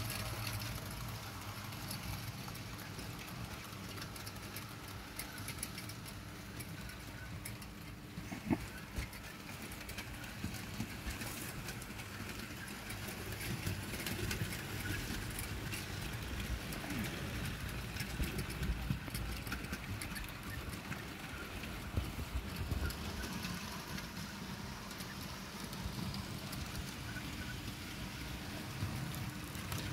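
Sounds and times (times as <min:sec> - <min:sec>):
wheels clicking over rail joints: 0:00.0 - 0:29.9.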